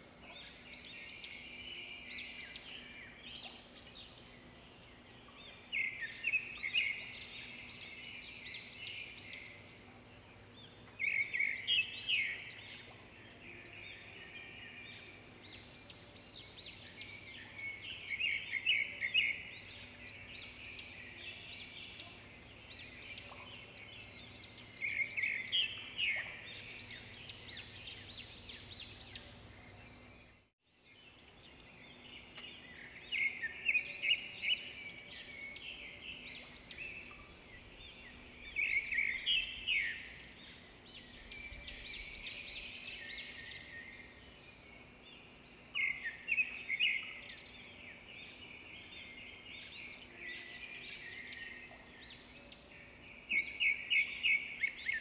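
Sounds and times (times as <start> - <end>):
faint outdoor background noise: 0.0 - 55.0
small birds chirping and singing: 0.0 - 55.0.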